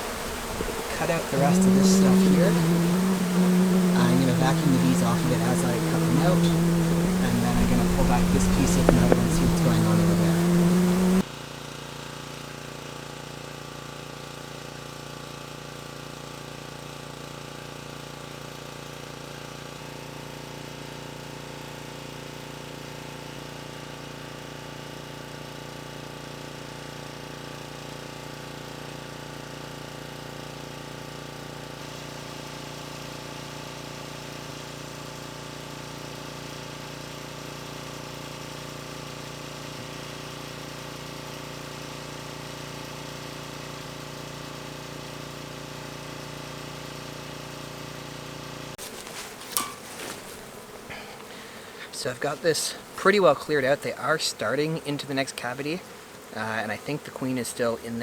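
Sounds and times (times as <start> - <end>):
small gasoline engine running: 0.0 - 49.8.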